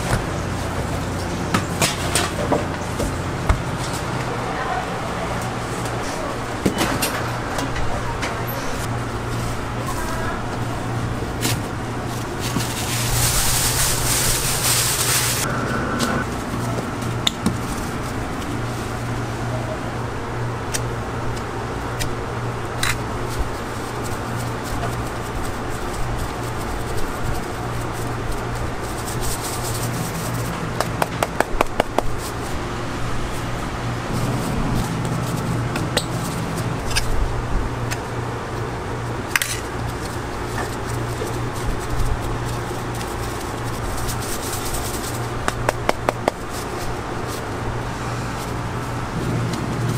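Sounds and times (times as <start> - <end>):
fan hum: 0.0 - 49.9.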